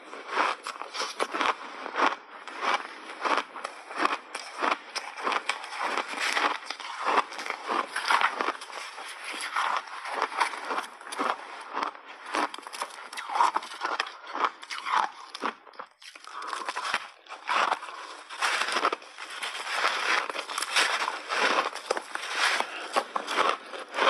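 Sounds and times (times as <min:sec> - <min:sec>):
ice crunching as it is chewed: 0:00.0 - 0:24.0.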